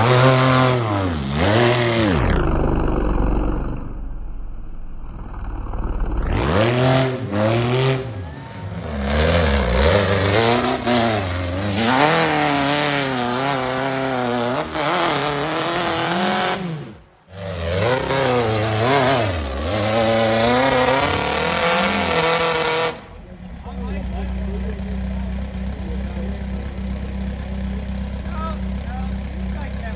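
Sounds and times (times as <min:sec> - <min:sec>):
buggy engine revving hard: 0:00.0 - 0:03.8, 0:06.2 - 0:29.9.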